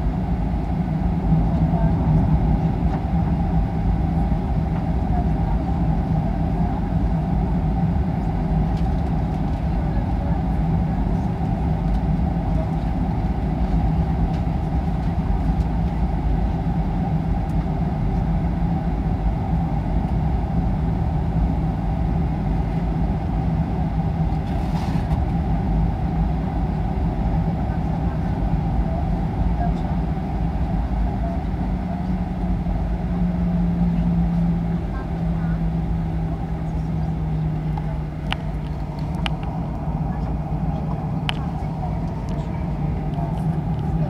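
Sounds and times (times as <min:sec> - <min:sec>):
jet engine cabin drone: 0:00.0 - 0:44.0.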